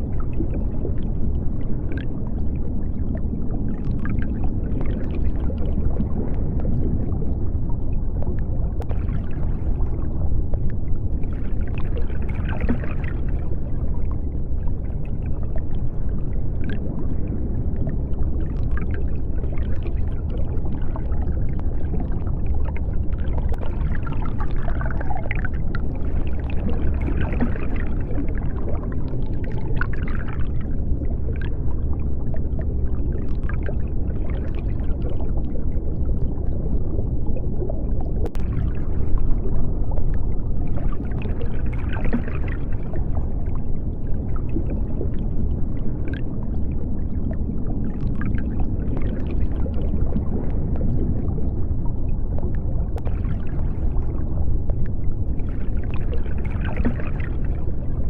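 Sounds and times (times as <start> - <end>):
bubbling: 0.0 - 58.0
deep underwater rumble: 0.0 - 58.0.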